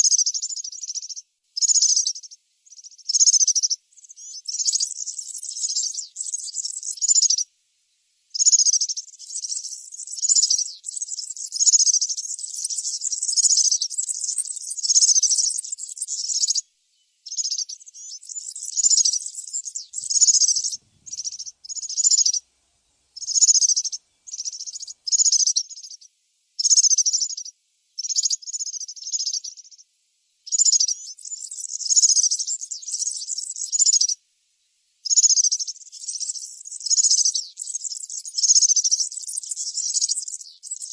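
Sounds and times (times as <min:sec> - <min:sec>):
bird singing jingling song: 0:00.0 - 0:07.5, 0:08.3 - 0:22.4, 0:23.0 - 0:29.8, 0:30.4 - 0:34.2, 0:35.0 - 0:40.9.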